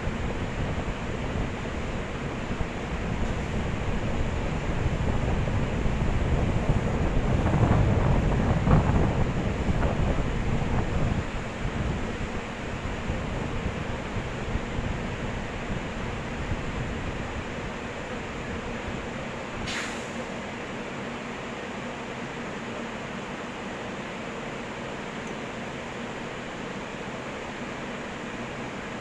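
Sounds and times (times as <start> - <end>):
train passing by: 0.0 - 29.0.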